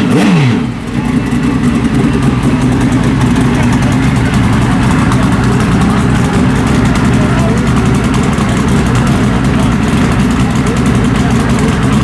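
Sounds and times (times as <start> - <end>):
motorcycle engine idling loudly: 0.1 - 12.0.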